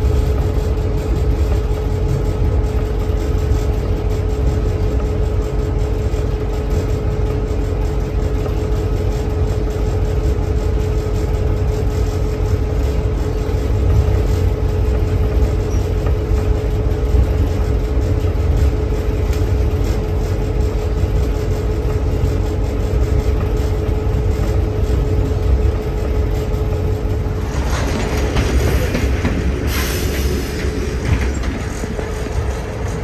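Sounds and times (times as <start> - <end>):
train rumbling on rails: 0.0 - 33.0
wheels hissing on rail: 0.0 - 33.0.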